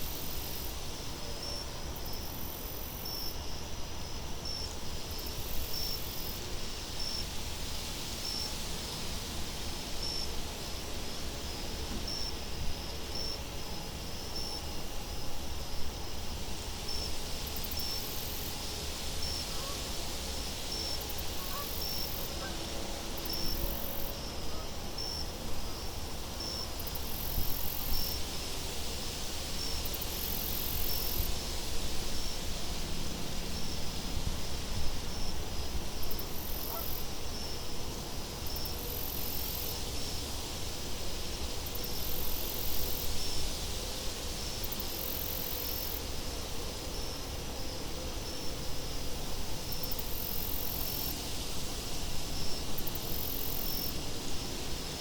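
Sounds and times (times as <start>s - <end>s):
insect chirping in high pips: 0.0s - 32.6s, 33.5s - 55.0s.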